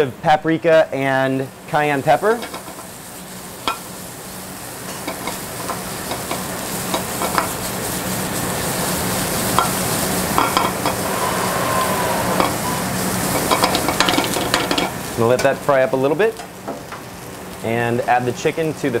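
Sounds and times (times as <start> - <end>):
vegetables sizzling in frying pans: 0.6 - 19.0.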